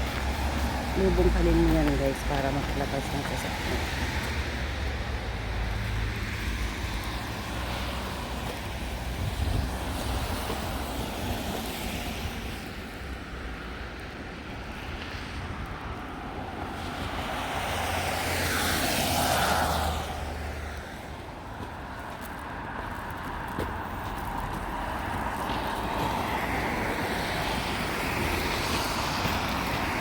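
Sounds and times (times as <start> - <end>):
low steady traffic rumble: 0.0 - 30.0.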